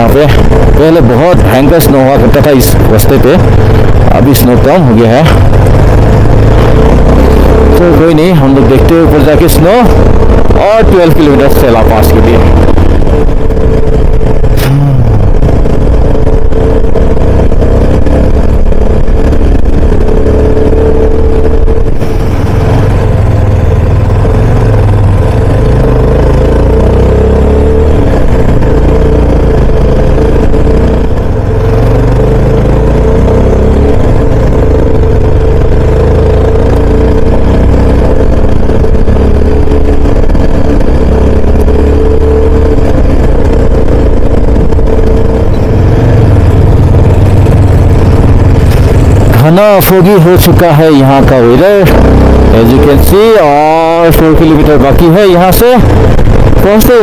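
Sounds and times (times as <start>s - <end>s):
low microphone rumble: 0.0s - 57.0s
motorcycle engine revving: 0.0s - 57.0s.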